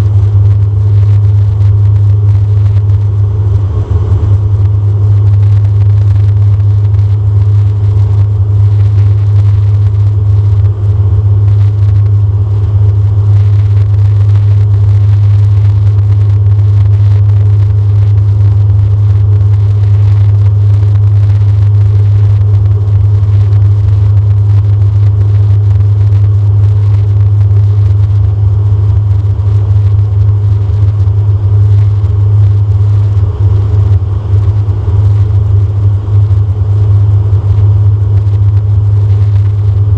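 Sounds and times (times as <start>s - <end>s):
propeller plane cabin drone: 0.0s - 39.9s.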